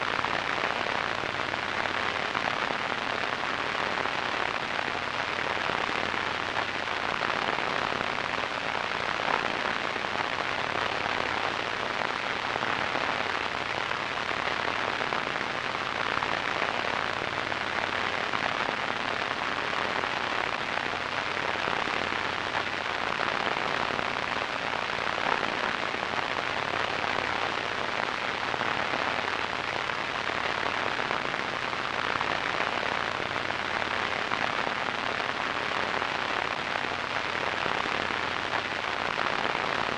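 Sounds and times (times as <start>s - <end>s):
radio static hiss and crackle: 0.0s - 39.9s.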